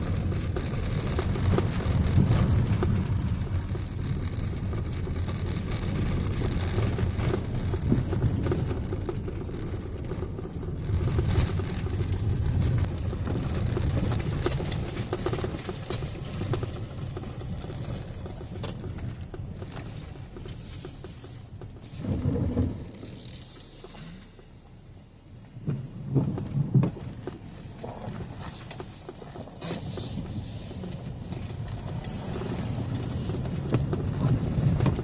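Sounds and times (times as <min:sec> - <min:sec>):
road noise: 0:00.0 - 0:35.0
vehicle engine rumble: 0:00.0 - 0:35.0.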